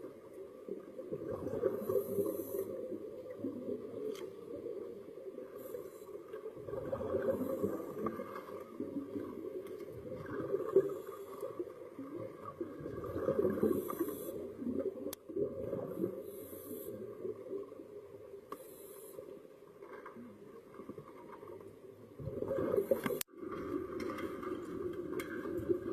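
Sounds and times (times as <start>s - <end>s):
exhaled bubbles rumbling: 0.0s - 5.5s, 6.3s - 18.3s, 20.2s - 25.9s.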